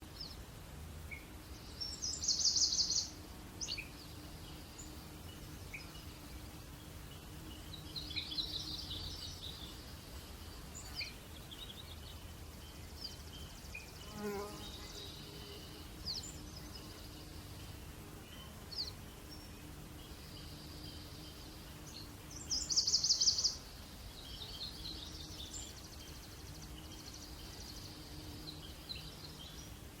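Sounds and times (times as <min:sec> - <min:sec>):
birds singing: 0:01.0 - 0:30.0.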